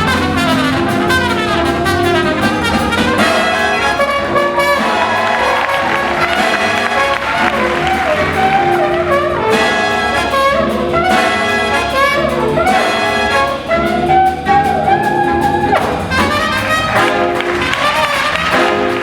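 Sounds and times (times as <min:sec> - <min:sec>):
jazz big band brass chords: 0:00.0 - 0:19.0.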